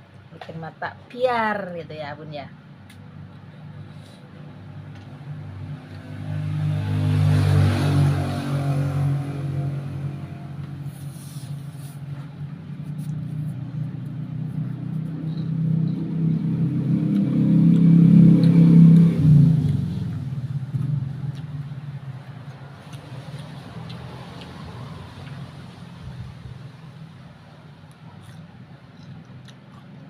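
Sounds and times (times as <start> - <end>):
vehicle engine running: 2.5 - 30.0.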